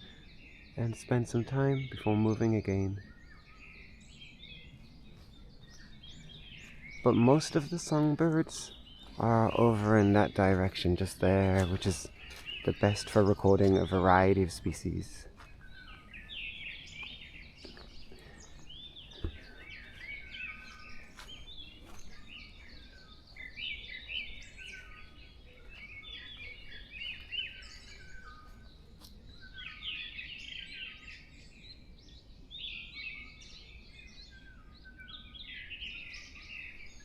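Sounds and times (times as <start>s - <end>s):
distant songbirds chirping: 0.0s - 37.0s.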